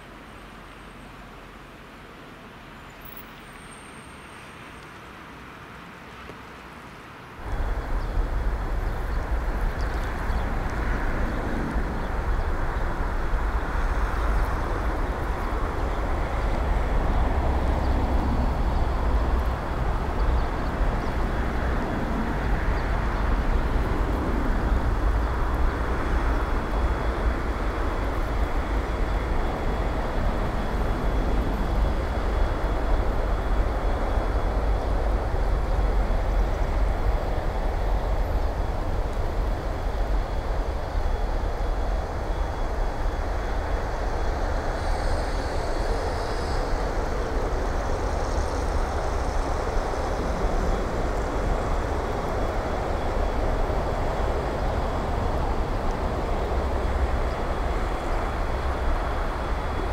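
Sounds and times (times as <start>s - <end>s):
train approaching with low rumble: 0.0s - 59.9s.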